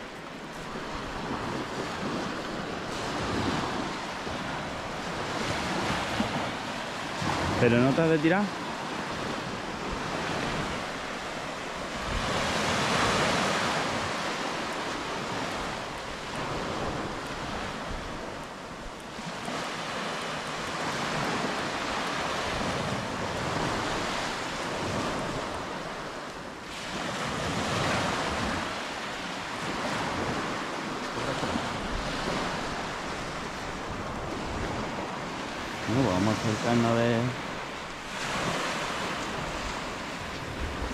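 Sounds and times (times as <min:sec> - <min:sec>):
waves washing up a pebble beach: 0:00.0 - 0:40.9
wind on microphone: 0:00.0 - 0:40.9.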